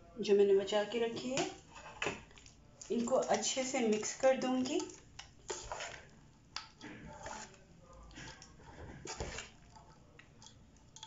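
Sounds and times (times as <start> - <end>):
spoon stirring rice in metal pot: 1.2 - 11.0.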